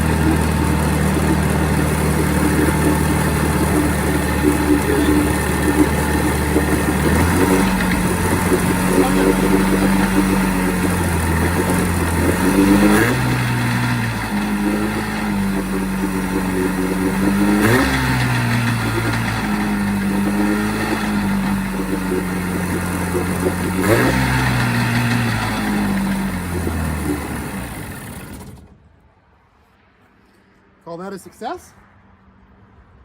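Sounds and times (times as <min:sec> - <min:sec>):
outboard motor running: 0:00.0 - 0:28.7.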